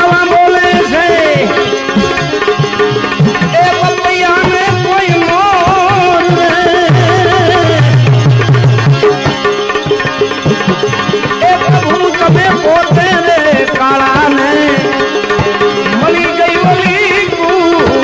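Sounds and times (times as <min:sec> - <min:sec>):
tabla strokes: 0:00.1 - 0:18.0.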